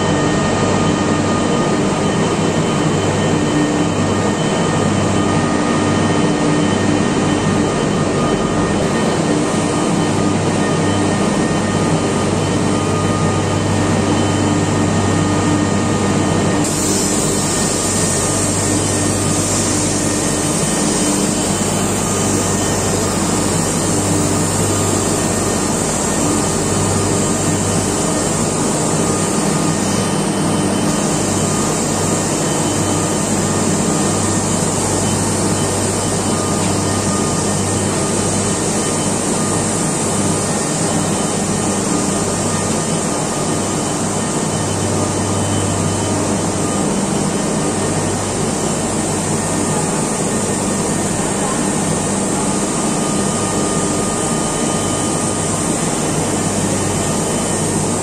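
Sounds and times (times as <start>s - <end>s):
turbine hall machinery hiss: 0.0s - 58.0s.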